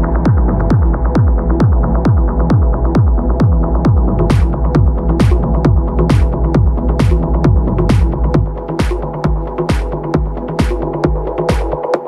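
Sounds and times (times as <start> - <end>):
kick drum: 0.0 - 12.0
sustained synth chords: 0.0 - 12.0.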